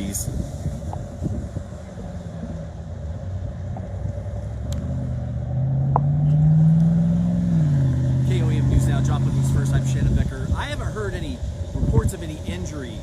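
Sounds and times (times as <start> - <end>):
passing vehicle engine: 0.0 - 11.9
low road rumble: 0.0 - 13.0.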